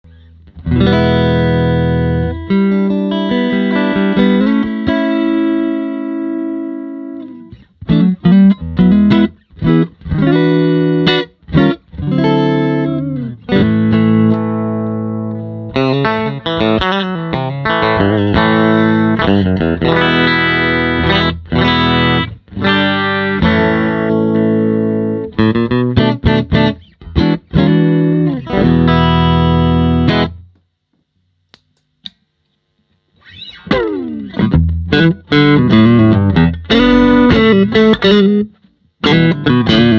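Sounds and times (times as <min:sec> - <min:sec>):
electric guitar strummed chords: 0:00.1 - 0:30.5, 0:33.2 - 0:39.9.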